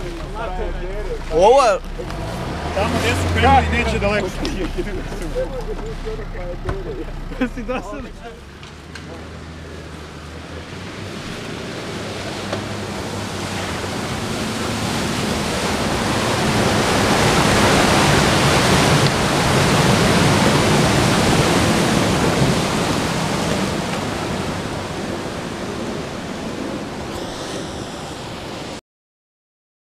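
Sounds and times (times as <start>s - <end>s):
tyres splashing mud and water: 0.0s - 9.1s, 10.1s - 26.4s
off-road vehicle engine running: 0.0s - 27.3s.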